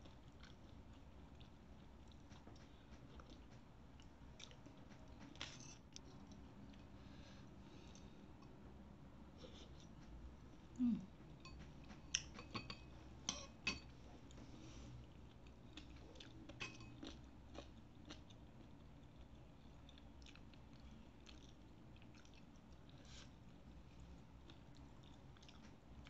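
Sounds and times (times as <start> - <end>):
faint chewing: 0.0 - 8.6, 13.3 - 26.0.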